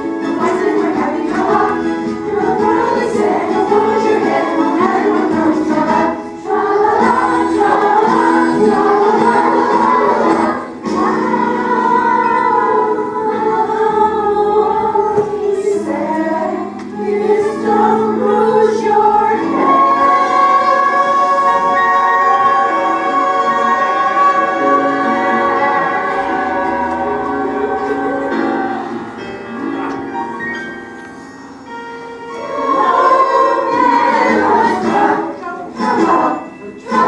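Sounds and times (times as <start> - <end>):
choir singing with accompaniment: 0.0 - 30.4, 31.2 - 37.0.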